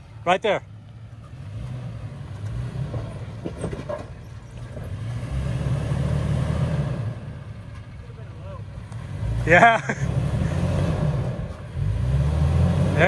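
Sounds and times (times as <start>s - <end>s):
off-road engine pulling at low speed: 0.0s - 13.0s.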